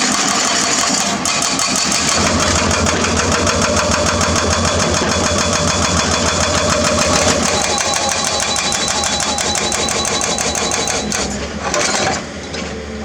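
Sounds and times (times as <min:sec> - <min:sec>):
diesel engine clattering: 0:00.0 - 0:12.1.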